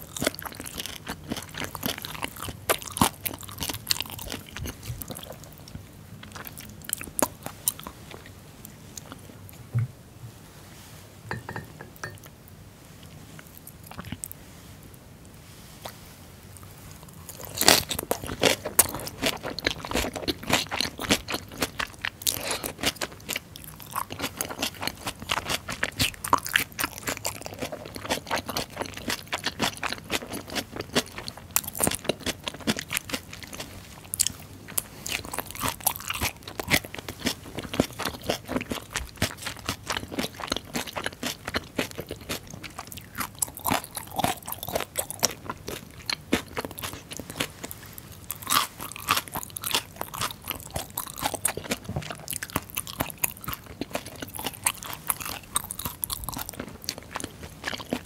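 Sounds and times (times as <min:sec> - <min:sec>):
crisp wet chewing crunches: 0:00.0 - 0:08.3, 0:16.6 - 0:58.0.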